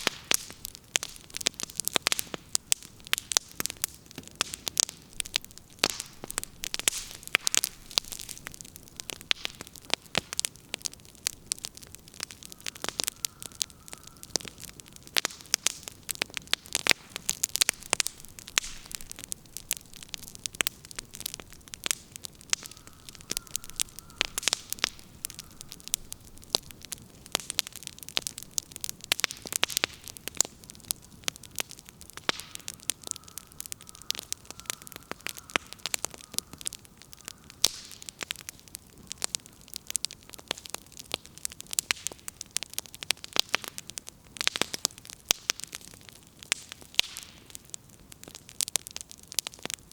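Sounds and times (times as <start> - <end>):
firewood crackling and popping: 0.0 - 49.9.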